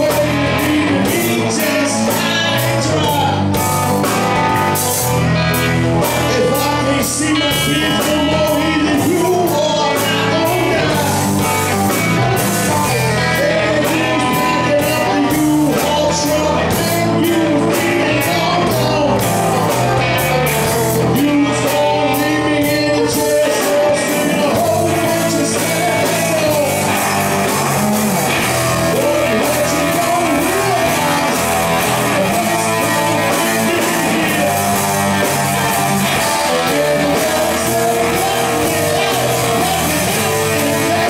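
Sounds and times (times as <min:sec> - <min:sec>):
man singing: 0:00.0 - 0:03.9, 0:04.8 - 0:41.0
drums keeping a steady beat: 0:00.0 - 0:41.0
electric and acoustic guitars: 0:00.0 - 0:41.0.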